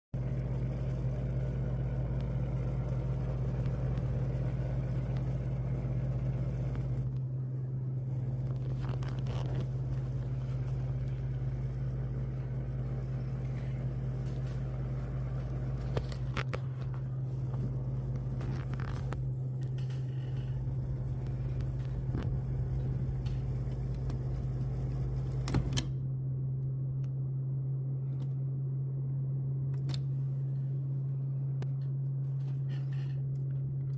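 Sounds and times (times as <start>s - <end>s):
air conditioner droning: 0.2s - 33.9s
deep rumble: 0.2s - 33.9s.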